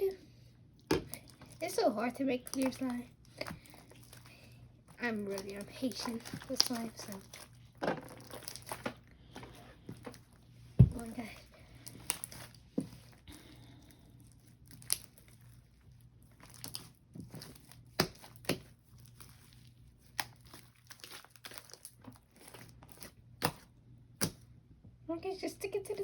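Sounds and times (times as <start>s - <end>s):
faint slime crackling: 0.0s - 24.6s.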